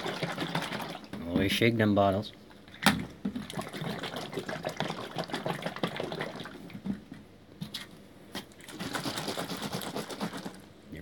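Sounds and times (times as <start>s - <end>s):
liquid sloshing in a bottle: 0.0s - 1.6s, 2.4s - 10.7s.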